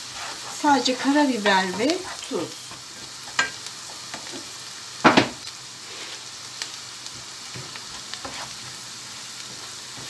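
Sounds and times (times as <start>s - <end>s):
wooden spoon stirring in pan: 0.0s - 4.7s, 5.8s - 10.0s
onions sizzling in a frying pan: 0.0s - 10.0s.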